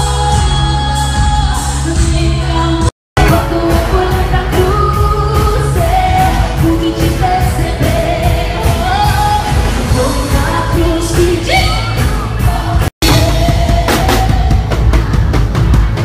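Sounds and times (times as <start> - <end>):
woman singing lead: 0.0 - 14.9
live pop band playing: 0.0 - 16.0
steady drum beat: 3.2 - 16.0.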